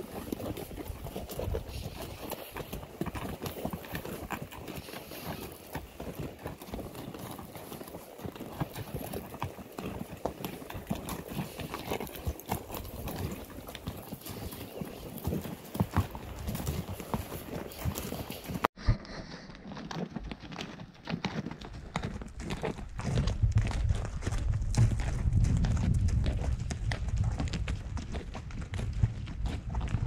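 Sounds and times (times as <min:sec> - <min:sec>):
horse hooves clip-clopping: 0:00.0 - 0:30.0.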